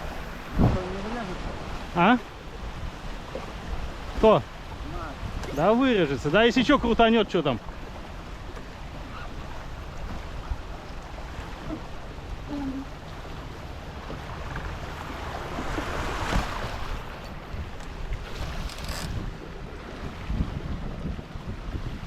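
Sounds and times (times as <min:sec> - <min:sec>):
water rushing along boat hulls: 0:00.0 - 0:22.0
wind buffeting microphone: 0:00.0 - 0:22.0.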